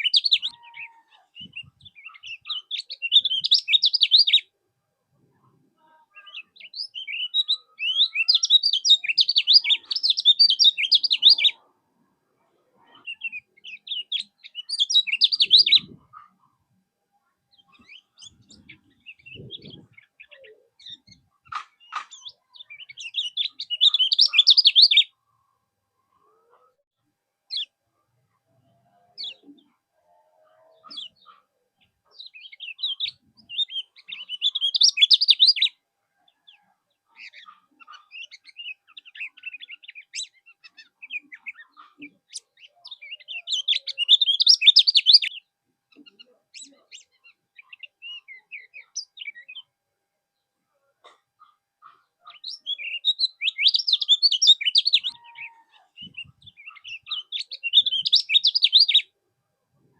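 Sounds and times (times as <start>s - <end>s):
songbird singing: 0.0s - 26.8s, 27.5s - 59.9s.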